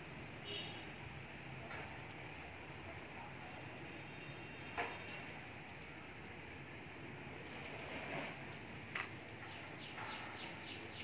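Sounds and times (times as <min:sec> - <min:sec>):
water showering from watering can: 0:00.0 - 0:11.0.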